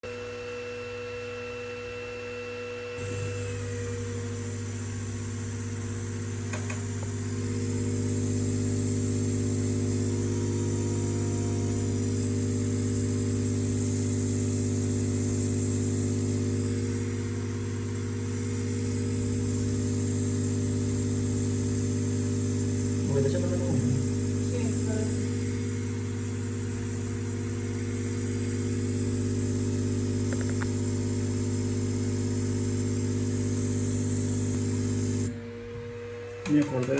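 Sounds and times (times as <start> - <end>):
air pump humming and hissing: 2.9 - 36.9.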